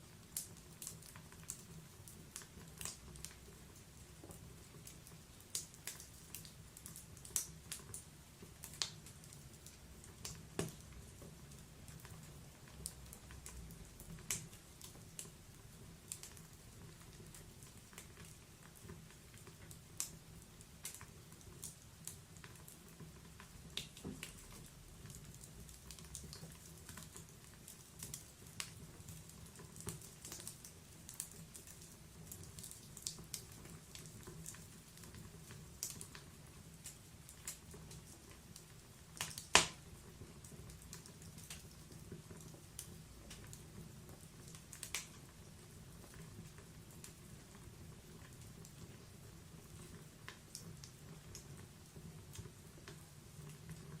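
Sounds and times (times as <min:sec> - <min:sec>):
fire crackling and popping: 0:00.0 - 0:54.0
low rumble of fire: 0:00.0 - 0:54.0.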